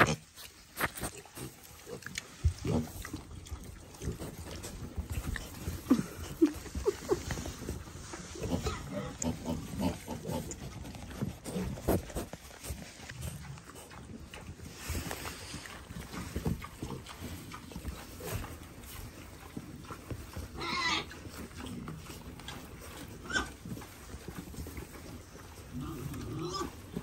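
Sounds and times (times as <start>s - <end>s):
piglets grunting and snuffling: 0.0s - 27.0s.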